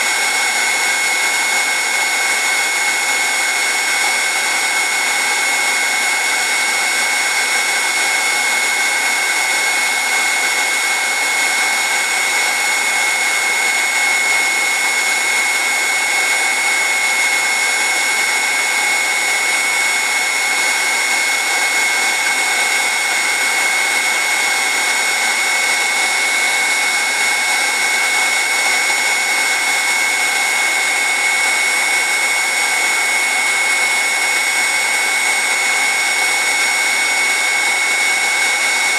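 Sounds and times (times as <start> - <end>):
heat gun fan whining: 0.0 - 38.9.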